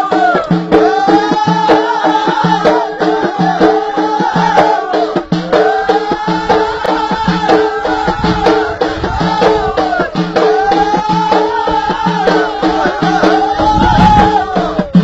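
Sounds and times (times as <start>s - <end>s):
frame drums beating: 0.0s - 15.0s
voices singing: 0.0s - 15.0s.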